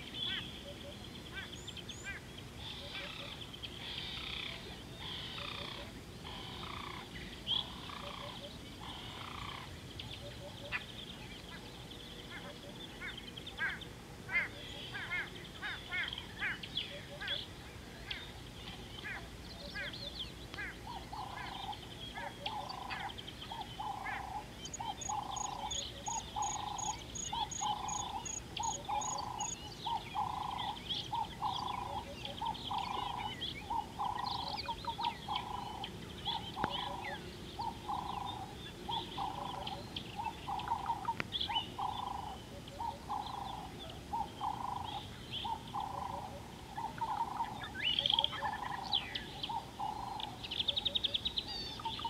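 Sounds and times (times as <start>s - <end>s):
bird repeating low note: 0.0s - 52.0s
birds chirping and trilling: 0.0s - 52.0s.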